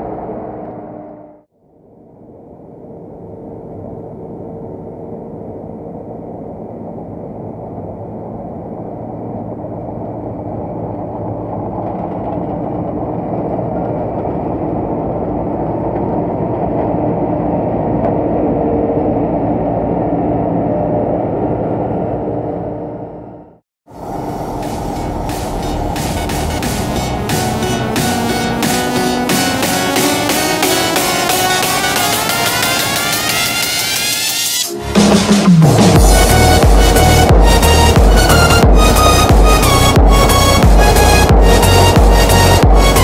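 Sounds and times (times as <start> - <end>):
combine harvester drone: 0.0 - 43.0.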